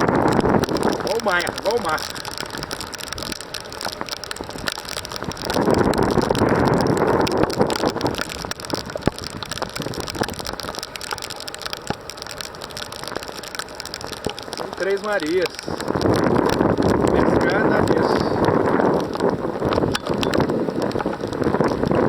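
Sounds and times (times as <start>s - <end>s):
rain falling: 0.0s - 22.0s
wind: 0.0s - 22.0s.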